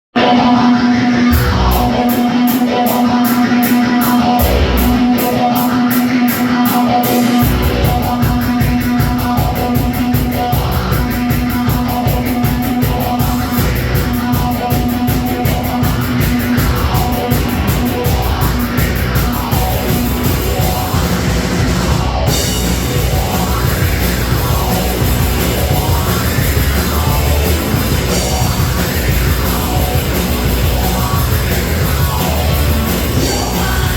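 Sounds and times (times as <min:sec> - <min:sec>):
heavy rock band playing: 0:00.1 - 0:33.9.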